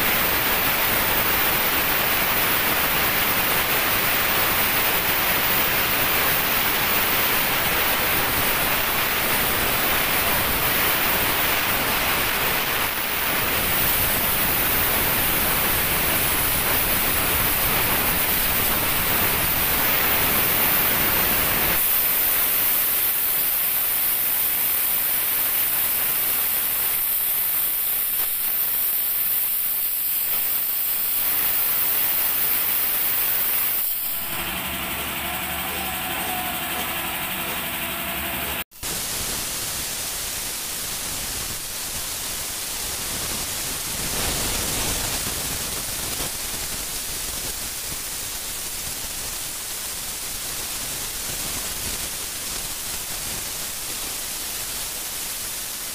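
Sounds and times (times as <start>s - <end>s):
plasma torch hissing: 0.0s - 55.9s.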